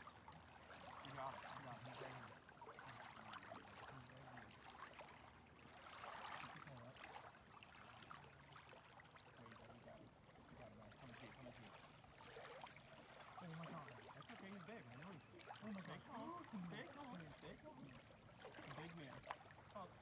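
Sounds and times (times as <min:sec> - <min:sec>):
small waves lapping: 0:00.0 - 0:20.0.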